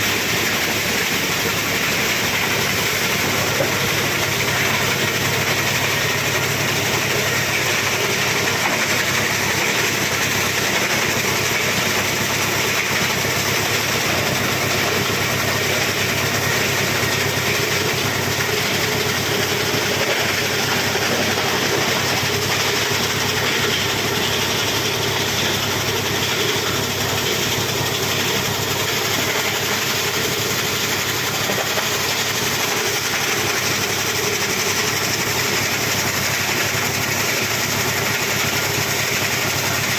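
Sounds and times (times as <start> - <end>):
plastic grinder machine running: 0.0 - 39.9.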